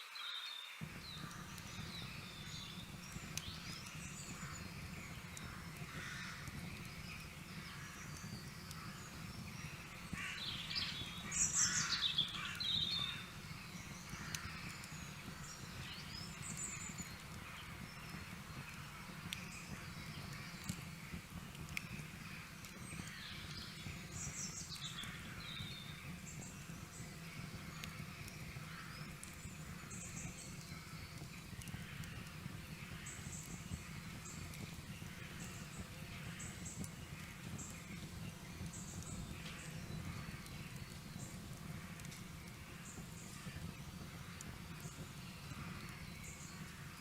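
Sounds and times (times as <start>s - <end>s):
small birds chirping: 0.7s - 47.0s.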